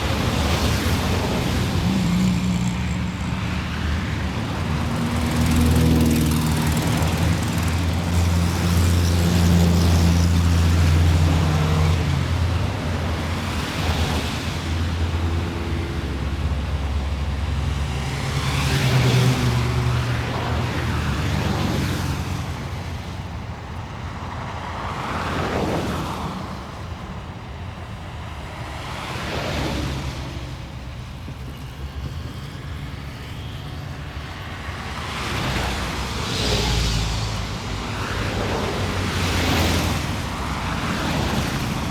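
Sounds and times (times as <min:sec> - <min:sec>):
cars passing by: 0:00.0 - 0:41.9
low engine hum of traffic: 0:00.0 - 0:41.9.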